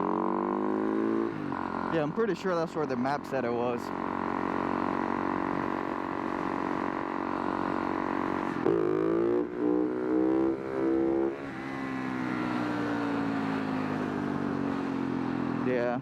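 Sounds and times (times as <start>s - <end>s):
motorcycle engine revving: 0.0s - 14.7s.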